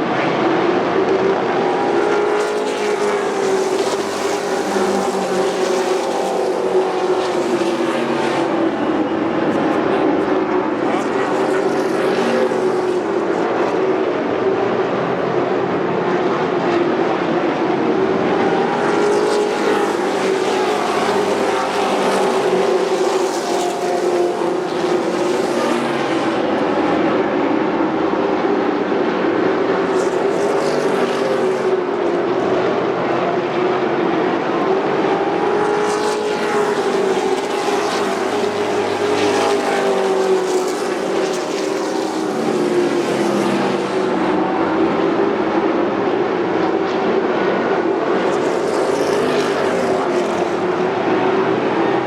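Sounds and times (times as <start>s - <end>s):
race truck engines passing: 0.0s - 52.0s.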